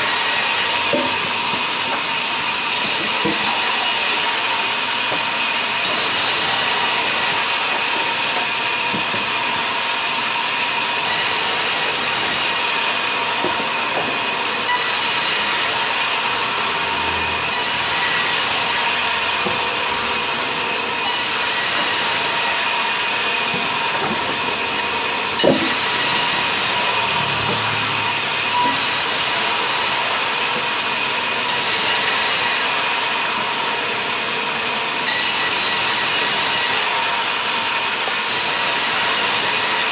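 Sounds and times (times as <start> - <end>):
band saw whining and hissing: 0.0 - 39.9.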